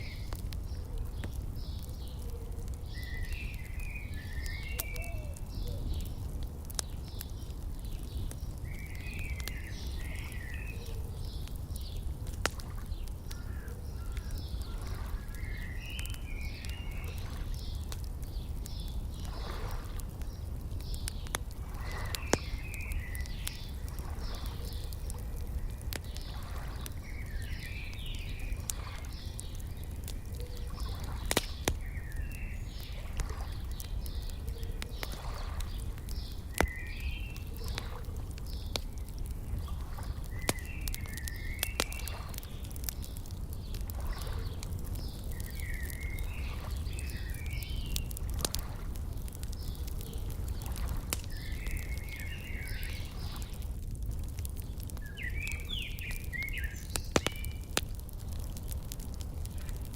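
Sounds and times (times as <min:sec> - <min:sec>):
fire pops: 0:00.0 - 0:59.9
small birds chirping: 0:00.0 - 0:59.9
wood fire crackling: 0:00.0 - 0:59.9.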